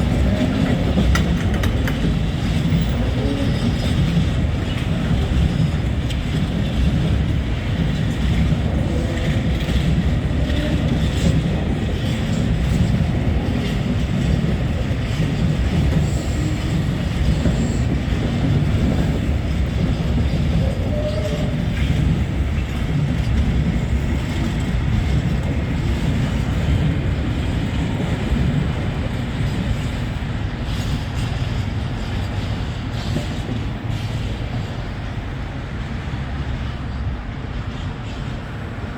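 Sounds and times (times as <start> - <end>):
freight train rumbling on rails: 0.0 - 38.9.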